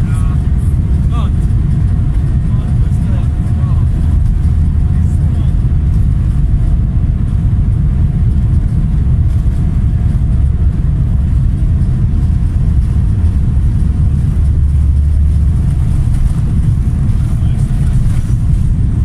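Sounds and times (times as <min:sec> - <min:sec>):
jet engines and wheels rumbling: 0:00.0 - 0:19.0.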